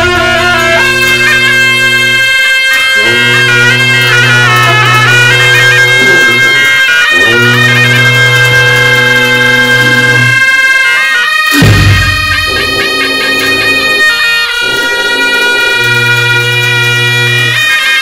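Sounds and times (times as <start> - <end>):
low held drone: 0.0 - 2.4, 3.0 - 10.4, 12.4 - 17.6
reedy shawm melody: 0.0 - 18.0.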